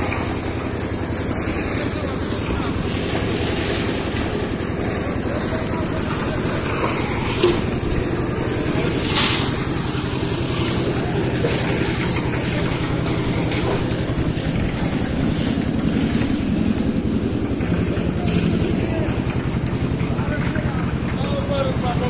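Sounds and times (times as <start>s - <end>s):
concrete mixer engine running: 0.0s - 22.0s.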